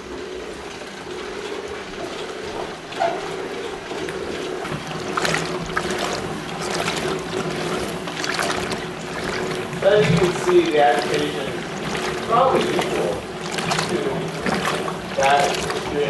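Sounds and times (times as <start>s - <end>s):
water sloshing in washing machine: 0.0s - 16.0s.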